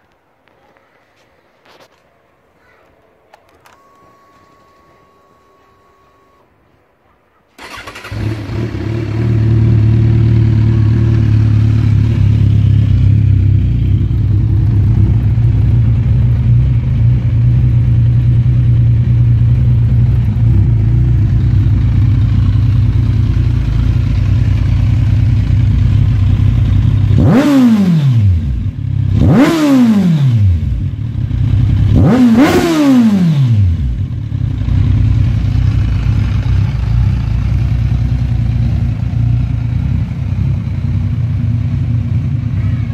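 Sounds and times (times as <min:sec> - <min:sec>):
motorcycle engine starting and idling: 0:07.5 - 0:42.9.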